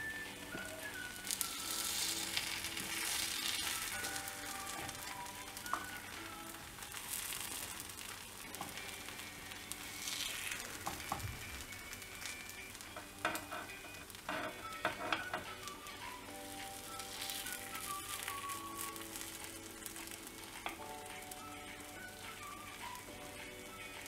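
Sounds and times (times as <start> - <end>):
batter balls sizzling in pan: 0.0 - 24.0.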